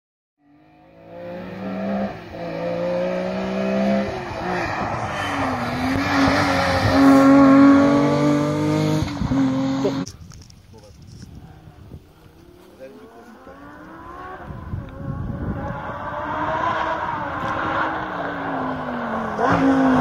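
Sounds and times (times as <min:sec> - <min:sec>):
rally car engine at high revs: 0:00.4 - 0:10.1, 0:12.3 - 0:20.0
gravel and tyre noise: 0:00.4 - 0:20.0.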